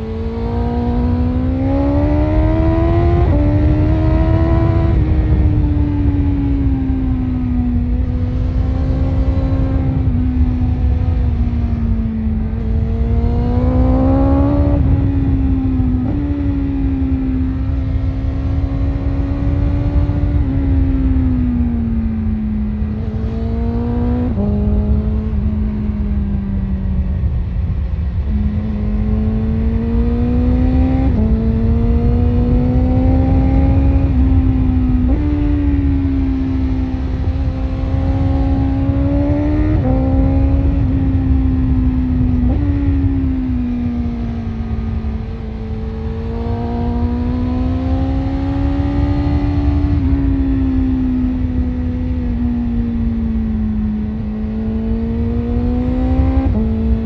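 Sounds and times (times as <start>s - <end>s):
motorcycle engine revving through gears: 0.0s - 57.0s
wind noise: 0.0s - 57.0s.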